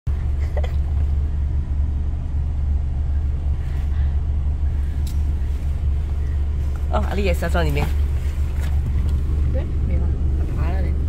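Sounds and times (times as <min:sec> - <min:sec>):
truck engine rumble from inside cab: 0:00.1 - 0:11.0.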